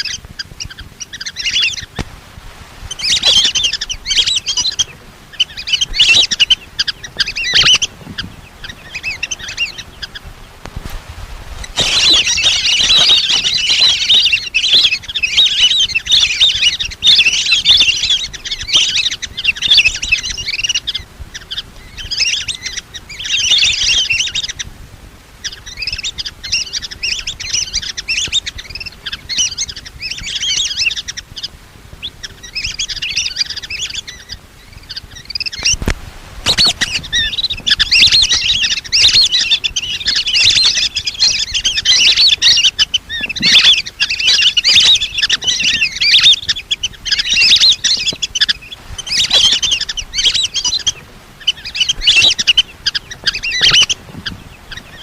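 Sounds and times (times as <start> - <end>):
whistling ducks calling: 0.0 - 2.1, 2.8 - 10.6, 11.6 - 24.7, 25.4 - 55.0.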